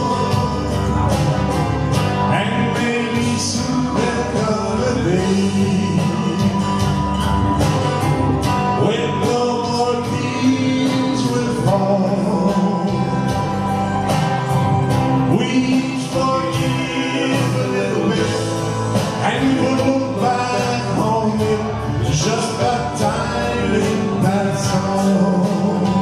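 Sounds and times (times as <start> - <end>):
man singing into a microphone: 0.0 - 1.2, 2.2 - 6.8, 8.7 - 13.7, 15.2 - 26.0
country guitar accompaniment: 0.0 - 26.0.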